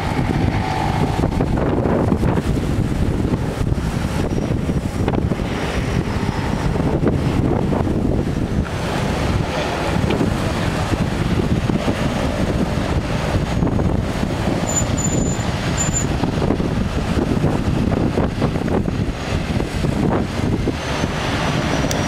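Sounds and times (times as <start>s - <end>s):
turboprop engines running: 0.0s - 22.0s
wind buffeting microphone: 0.0s - 22.0s.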